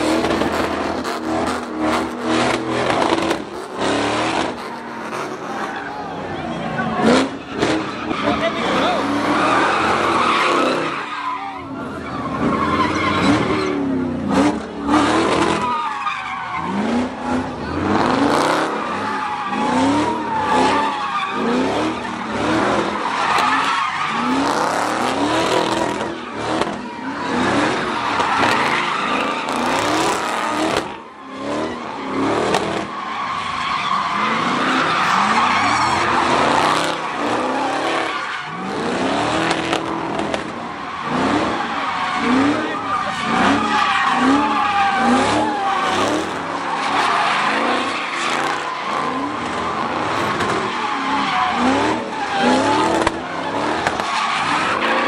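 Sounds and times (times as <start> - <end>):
car engines revving: 0.0 - 55.0
tyres squealing: 0.0 - 55.0.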